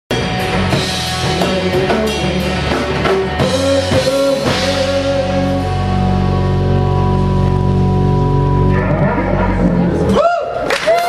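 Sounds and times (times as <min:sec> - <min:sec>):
drum kit: 0:00.1 - 0:10.3
electric bass: 0:00.1 - 0:11.0
electric guitar note ringing: 0:00.2 - 0:10.1.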